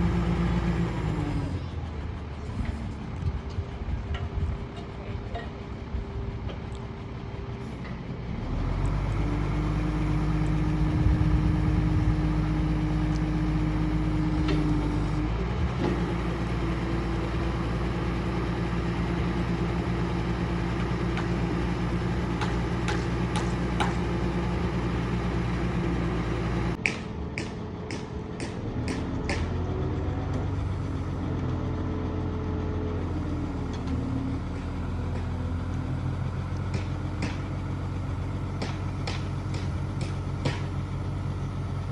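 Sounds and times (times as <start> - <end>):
truck diesel engine running: 0.0 - 41.9.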